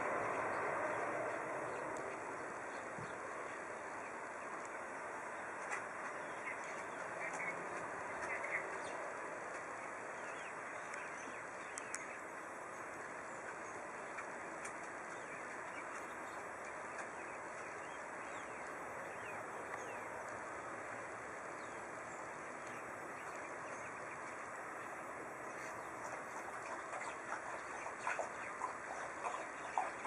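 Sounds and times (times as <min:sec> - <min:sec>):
distant jet engines running: 0:00.0 - 0:30.0.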